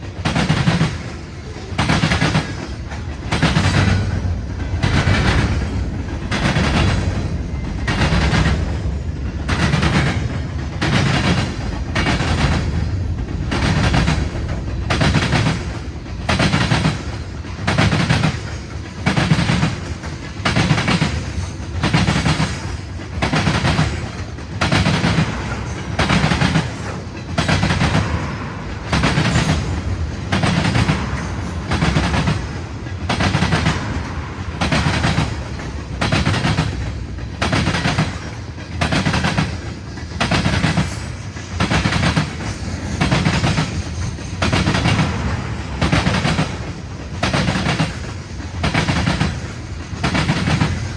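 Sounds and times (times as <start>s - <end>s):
train wheels clattering over rail joints: 0.0s - 50.9s.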